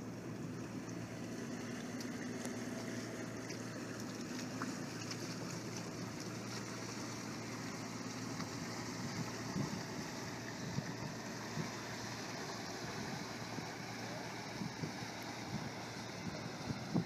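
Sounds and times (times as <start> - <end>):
boat diesel engine humming: 0.0 - 17.0
water wash: 0.0 - 17.0.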